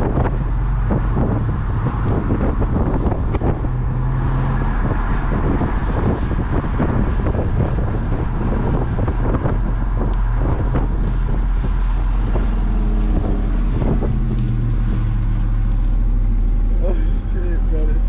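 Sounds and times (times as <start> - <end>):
car engine and road noise: 0.0 - 18.0
wind buffeting microphone: 0.0 - 18.0.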